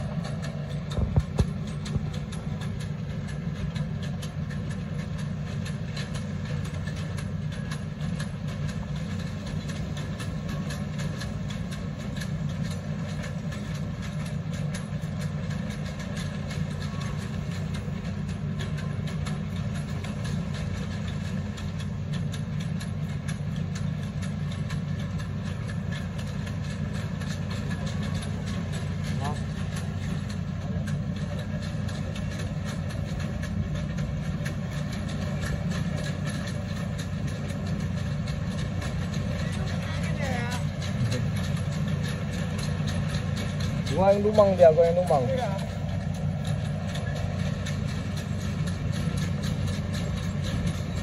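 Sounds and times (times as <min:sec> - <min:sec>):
excavator diesel engine running: 0:00.0 - 0:51.0
fast clatter: 0:00.0 - 0:51.0.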